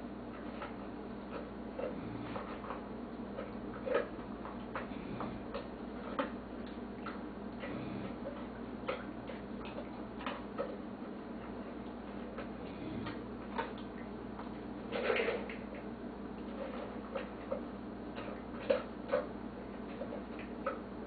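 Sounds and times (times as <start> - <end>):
dog eating from bowl: 0.1 - 21.0.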